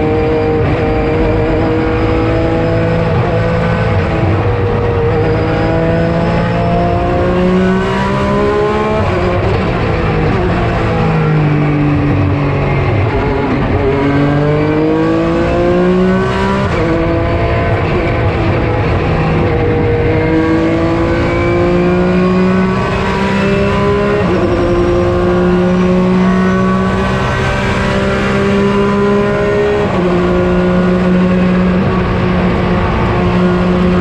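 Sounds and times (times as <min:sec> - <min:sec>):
racing engine accelerating: 0:00.0 - 0:34.0.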